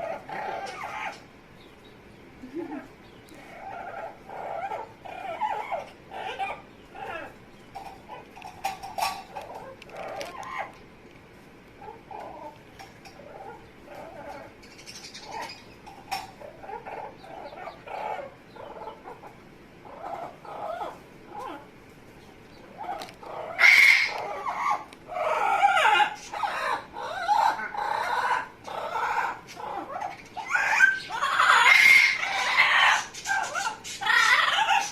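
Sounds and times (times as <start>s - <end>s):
parrot calling: 0.0s - 1.3s, 3.0s - 10.8s, 11.8s - 21.7s, 22.6s - 34.9s.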